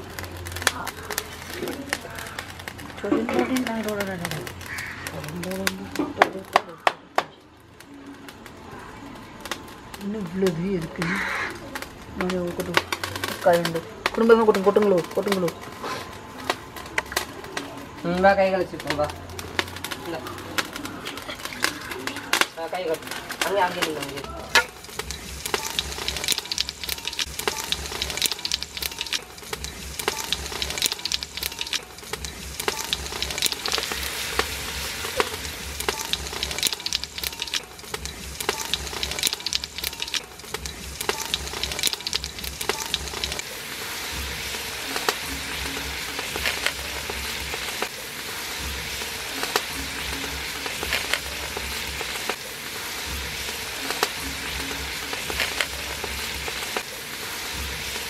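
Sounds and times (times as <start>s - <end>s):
hot oil sizzling in a pot: 0.0s - 58.0s.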